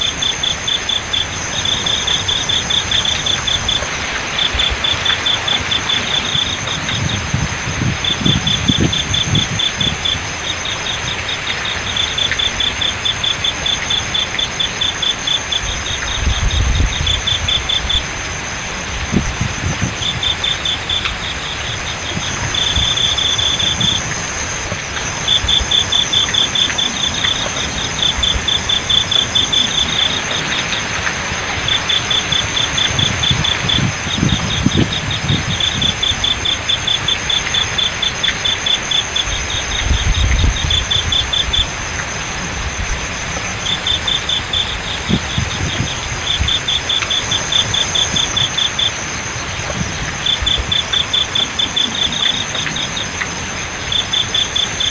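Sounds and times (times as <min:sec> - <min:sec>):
crickets chirping: 0:00.0 - 0:54.9
flowing water hiss: 0:00.0 - 0:54.9
high insect drone: 0:00.0 - 0:54.9.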